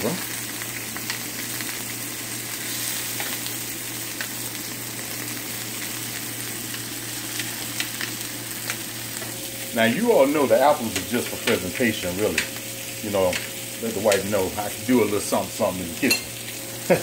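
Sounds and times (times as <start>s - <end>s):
fish sizzling in grill pan: 0.0s - 17.0s.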